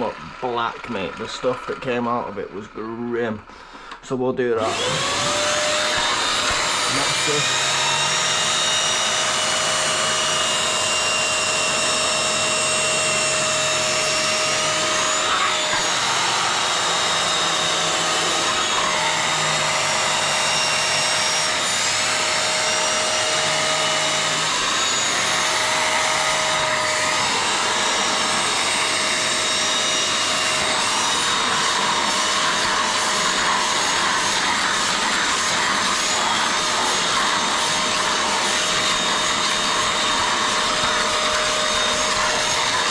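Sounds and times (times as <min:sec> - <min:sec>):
wet vacuum running: 0:00.0 - 0:02.7, 0:04.6 - 0:42.9.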